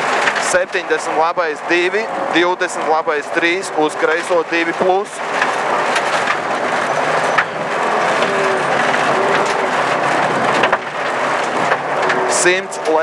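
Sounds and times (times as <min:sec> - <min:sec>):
car engine running under load: 0:00.0 - 0:13.0
roar of tyres on gravel: 0:00.0 - 0:13.0.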